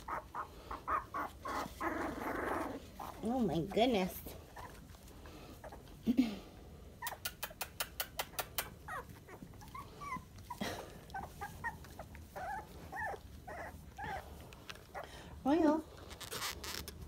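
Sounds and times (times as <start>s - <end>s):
puppies squeaking and whimpering: 0.0s - 6.0s, 6.8s - 17.0s.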